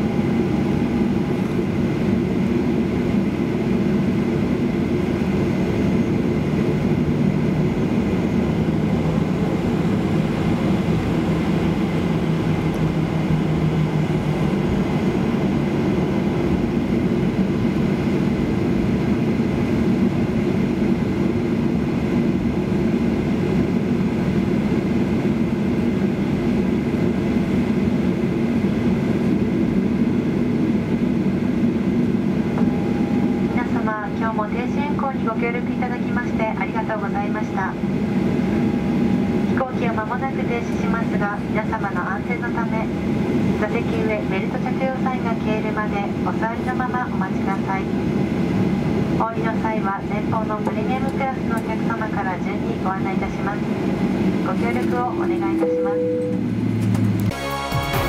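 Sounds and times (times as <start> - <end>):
airplane cabin hum: 0.0 - 57.4.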